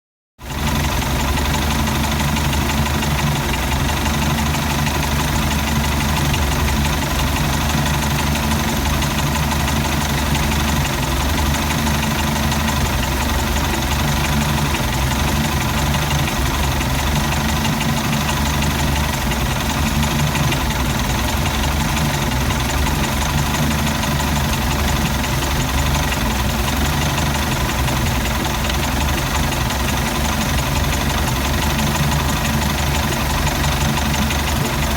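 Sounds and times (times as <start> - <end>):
boat engine idling roughly: 0.4 - 34.9.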